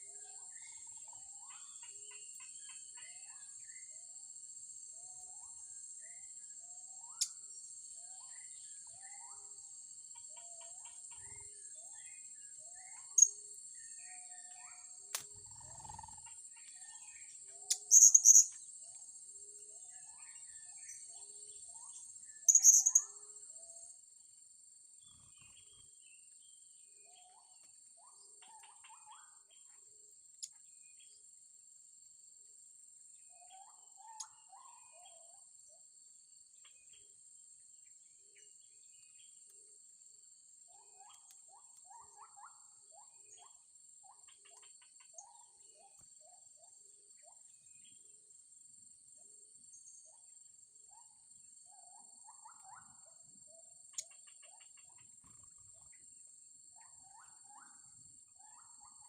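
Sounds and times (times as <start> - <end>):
faint bird chirping: 0.0 - 31.5, 32.6 - 59.0.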